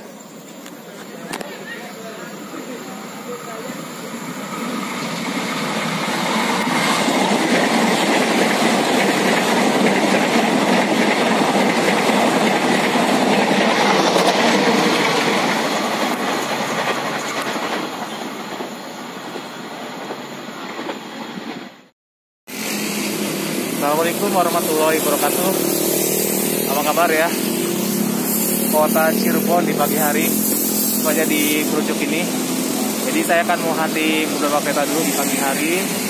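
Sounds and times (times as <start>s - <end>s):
train wheels rushing on rails: 0.2s - 21.9s, 22.5s - 36.0s.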